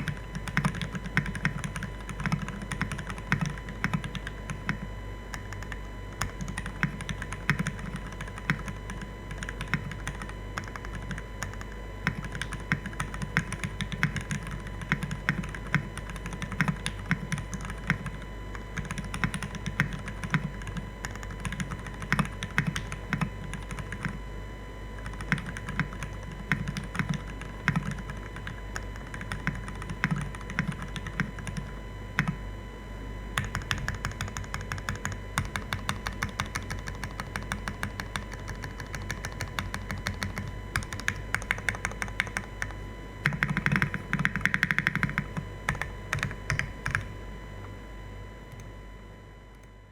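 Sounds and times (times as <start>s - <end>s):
mechanical keyboard typing: 0.0s - 24.2s, 25.0s - 32.4s, 33.4s - 47.1s.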